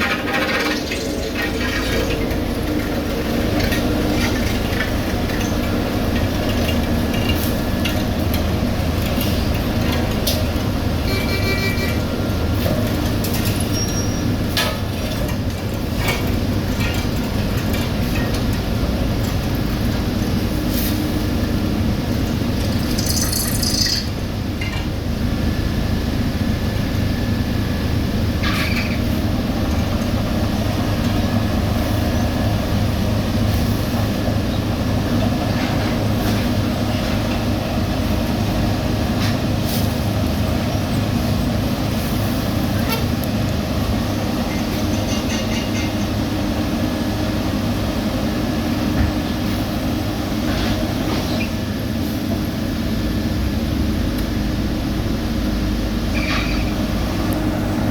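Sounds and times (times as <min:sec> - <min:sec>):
heavy machinery engine hum: 0:00.0 - 0:57.9.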